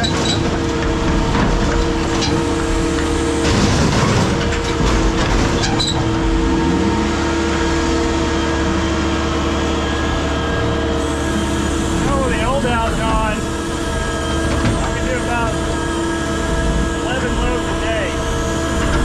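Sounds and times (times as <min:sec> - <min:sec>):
road noise: 0:00.0 - 0:19.0
vehicle running hum: 0:00.0 - 0:19.0
steady tones: 0:00.5 - 0:19.0.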